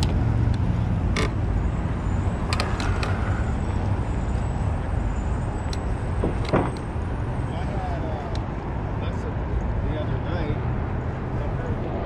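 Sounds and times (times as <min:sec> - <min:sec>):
wind and road noise rumble: 0:00.0 - 0:12.0.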